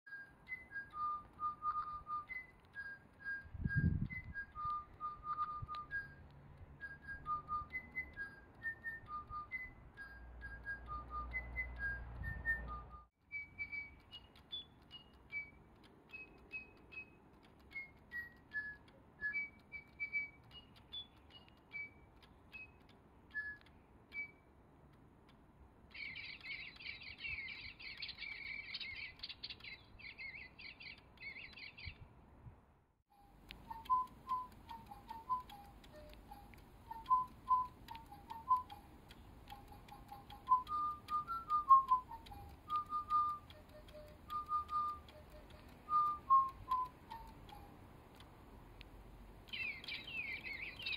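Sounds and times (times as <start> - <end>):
electronic toy birds whistling: 0.1 - 24.5, 25.9 - 32.0, 33.1 - 47.8, 49.5 - 50.9
faint clicks: 0.1 - 32.1, 33.2 - 50.9.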